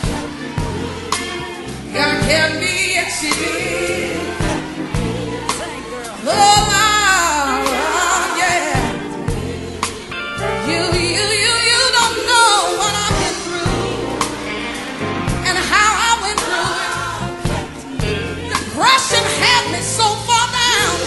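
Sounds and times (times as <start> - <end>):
band with bass and drums: 0.0 - 12.2, 12.8 - 21.0
choir voices: 0.0 - 21.0
gospel lead vocalist singing: 0.0 - 21.0.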